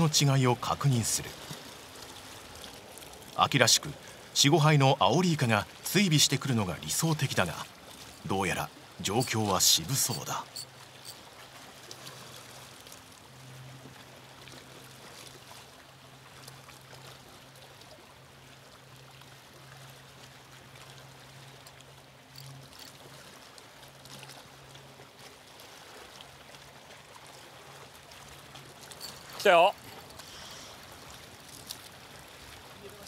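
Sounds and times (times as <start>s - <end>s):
waves lapping against rocks: 0.0s - 33.0s.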